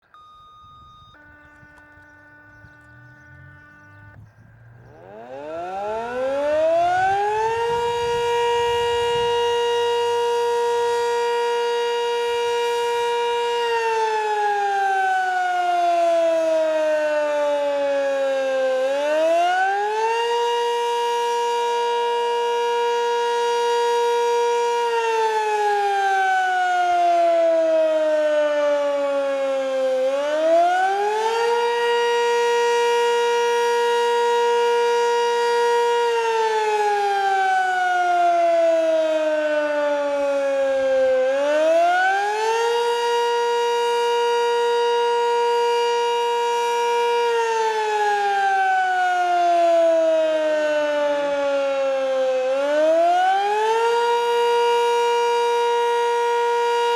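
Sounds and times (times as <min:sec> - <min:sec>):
outdoor warning siren wailing: 0:00.0 - 0:56.9.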